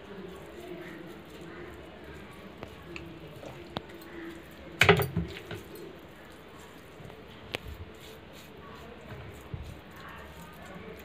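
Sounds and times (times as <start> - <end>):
hands squishing raw chicken: 0.0 - 11.0.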